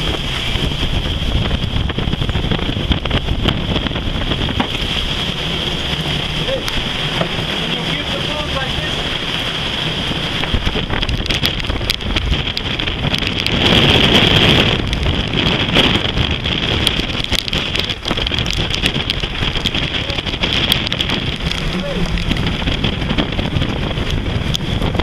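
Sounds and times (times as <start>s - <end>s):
sharp crackles: 0.0s - 25.0s
wind buffeting microphone: 0.0s - 25.0s.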